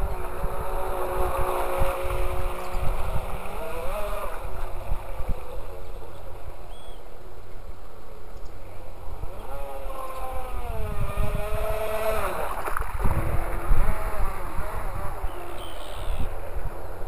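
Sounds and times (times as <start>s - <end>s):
wind buffeting microphone: 0.0s - 6.9s, 8.9s - 17.0s
toy speedboat motor whining: 0.0s - 7.0s, 8.8s - 16.6s.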